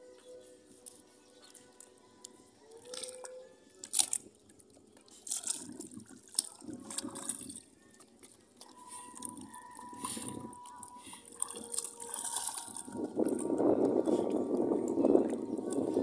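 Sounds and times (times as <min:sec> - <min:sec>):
water splashing and sloshing: 0:00.7 - 0:16.0.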